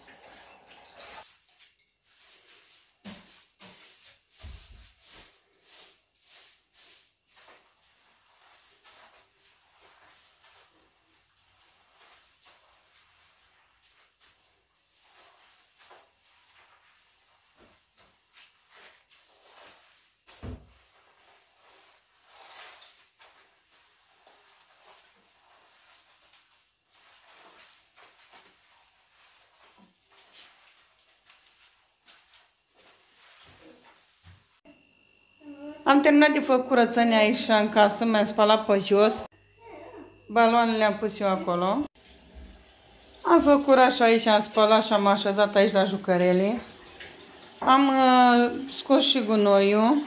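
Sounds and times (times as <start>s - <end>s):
broom sweeping tiled floor: 0.0s - 34.7s, 41.8s - 50.0s.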